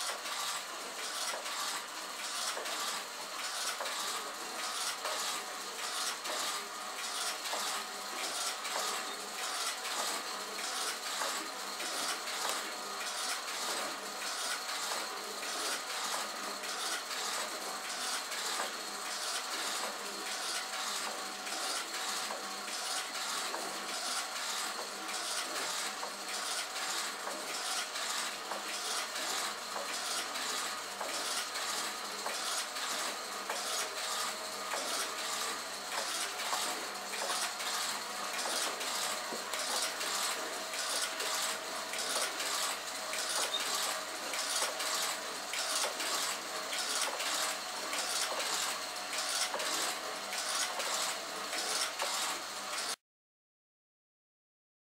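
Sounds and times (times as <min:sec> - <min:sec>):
mechanical whirring and clattering: 0:00.0 - 0:53.0.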